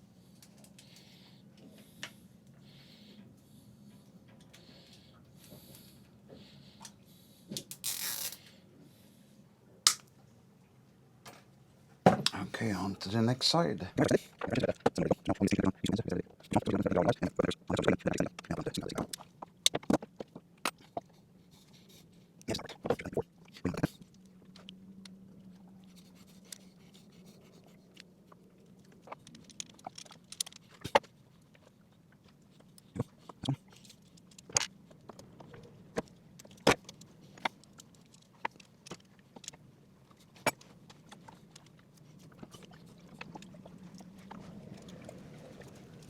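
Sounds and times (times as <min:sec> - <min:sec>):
steady low hum: 0:08.5 - 0:46.0.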